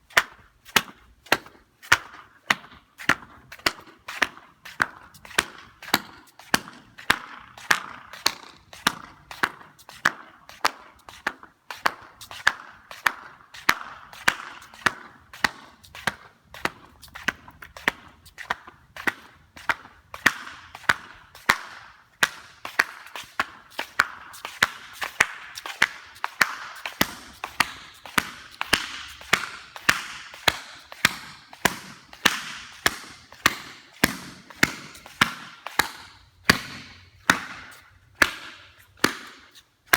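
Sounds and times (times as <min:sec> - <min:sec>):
flip-flops slapping: 0:00.2 - 0:39.9.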